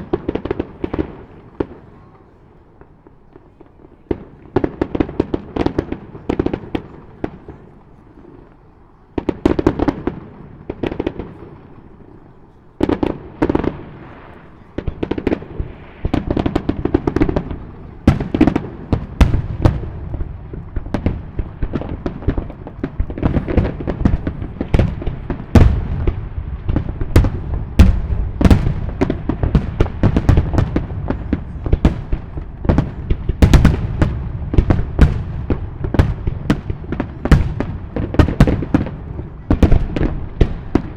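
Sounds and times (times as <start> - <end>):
fireworks bursting with bangs: 0.0 - 40.9.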